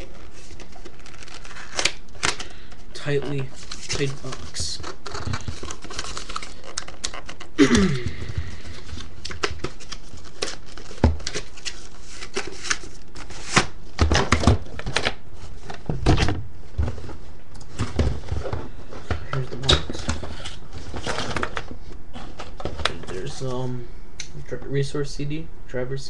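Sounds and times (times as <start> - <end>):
cardboard and packaging rustling: 0.0 - 23.6.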